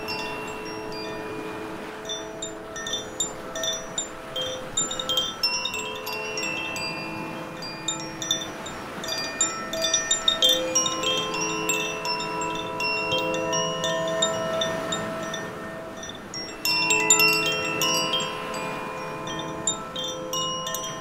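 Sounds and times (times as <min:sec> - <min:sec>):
waves breaking on rocks: 0:00.0 - 0:21.0
wind chime ringing: 0:00.0 - 0:21.0.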